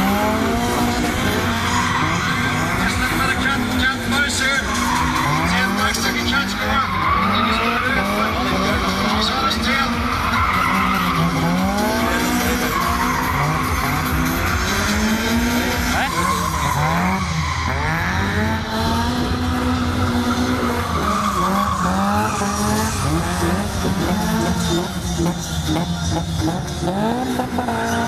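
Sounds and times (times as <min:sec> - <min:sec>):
car engines revving: 0:00.0 - 0:28.0
tyres squealing: 0:00.0 - 0:28.0.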